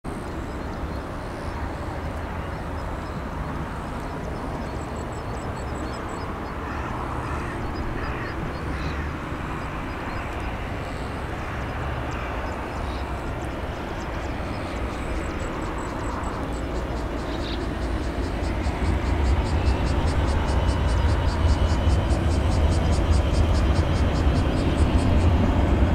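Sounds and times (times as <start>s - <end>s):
distant jet engines rumbling: 0.1s - 25.9s
faint high rhythmic chirping: 3.9s - 25.9s.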